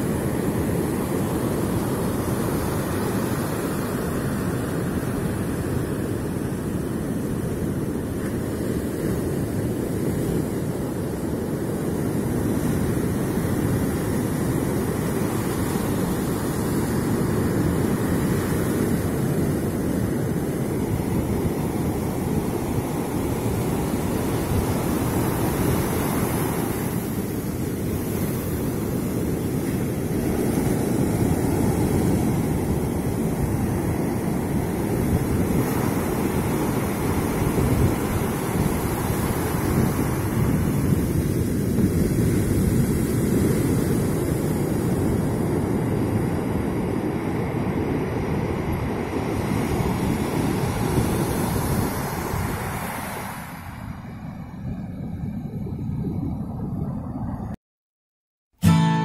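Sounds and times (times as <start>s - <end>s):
sea surf washing up beach: 0.0s - 55.8s
wind buffeting microphone: 0.0s - 57.6s.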